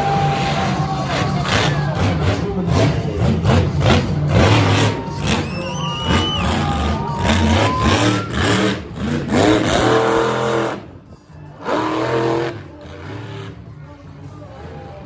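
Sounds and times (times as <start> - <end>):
monster truck engine revving: 0.0 - 15.0
music: 0.0 - 15.0.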